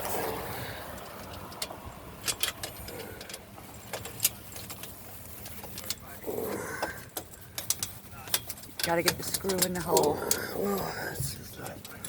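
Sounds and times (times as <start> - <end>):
steady low hiss: 0.0 - 12.0
light clicks and taps: 0.9 - 12.0.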